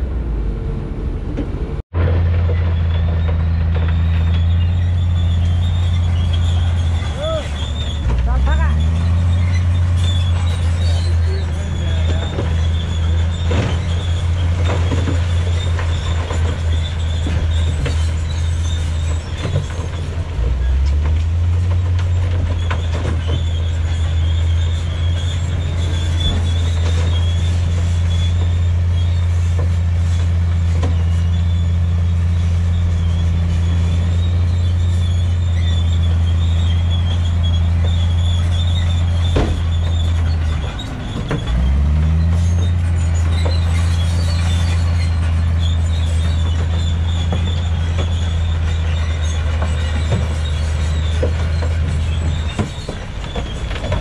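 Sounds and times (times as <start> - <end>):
diesel engines droning: 0.0 - 54.0
rock sliding and clattering: 2.0 - 54.0.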